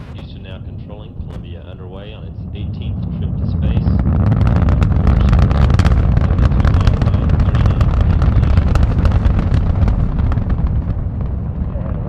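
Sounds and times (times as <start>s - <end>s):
rocket engines rumbling and crackling: 0.0s - 12.0s.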